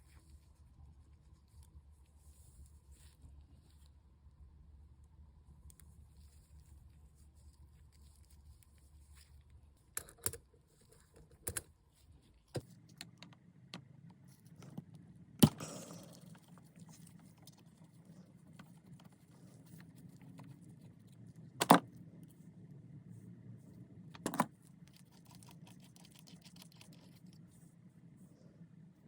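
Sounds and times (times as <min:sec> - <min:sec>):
low steady background hum: 0:00.0 - 0:29.0.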